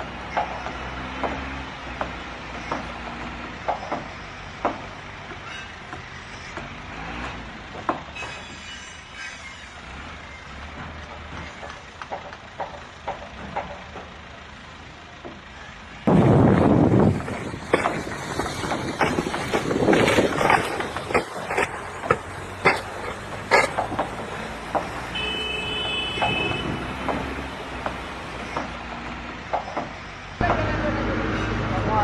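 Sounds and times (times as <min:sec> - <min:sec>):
sharp knocks and clanks: 0:00.0 - 0:08.7, 0:10.6 - 0:14.4, 0:15.2 - 0:30.7
heavy machinery engine hum: 0:00.0 - 0:32.0
loud rough rumble: 0:00.0 - 0:32.0.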